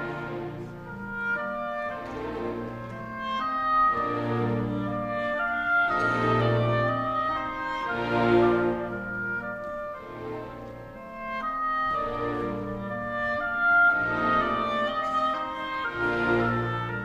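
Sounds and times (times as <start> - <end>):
classical orchestral music: 0.0 - 17.0.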